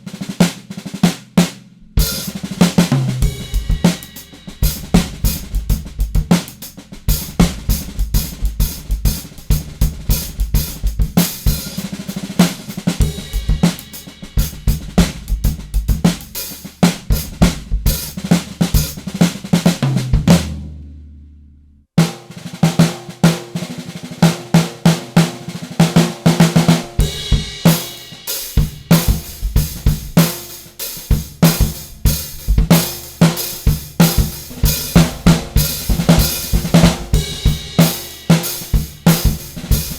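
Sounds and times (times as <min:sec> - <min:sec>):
drum kit playing: 0:00.0 - 0:21.4, 0:22.0 - 0:39.9.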